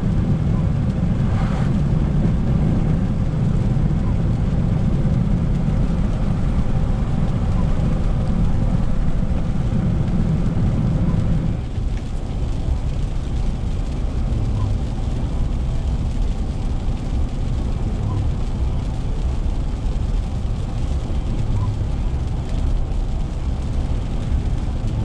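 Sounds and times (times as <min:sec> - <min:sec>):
car road noise rumble: 0:00.0 - 0:25.0
windshield wipers sweeping: 0:00.3 - 0:25.0.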